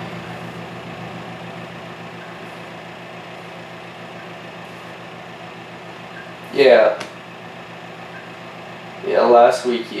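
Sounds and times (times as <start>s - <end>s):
appliance hum with hiss: 0.0s - 10.0s.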